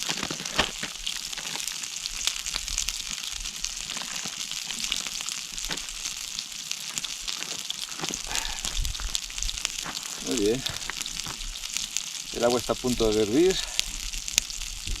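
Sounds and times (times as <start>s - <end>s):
embers popping and crackling: 0.0s - 15.0s
meat sizzling: 0.0s - 15.0s.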